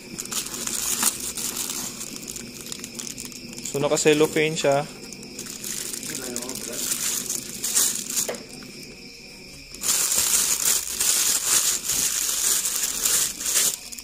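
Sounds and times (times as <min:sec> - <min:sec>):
cellophane wrapping crinkling: 0:00.0 - 0:09.0, 0:09.7 - 0:14.0.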